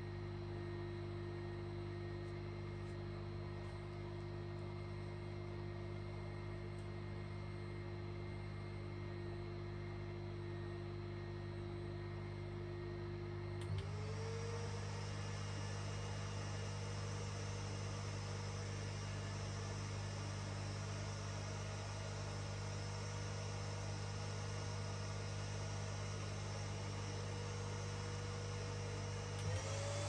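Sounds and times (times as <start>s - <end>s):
vacuum motor hum with whine: 0.0s - 30.0s.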